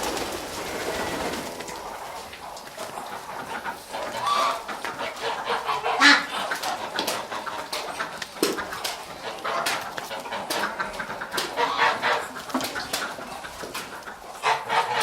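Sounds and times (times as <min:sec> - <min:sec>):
poultry calling: 0:00.0 - 0:15.0.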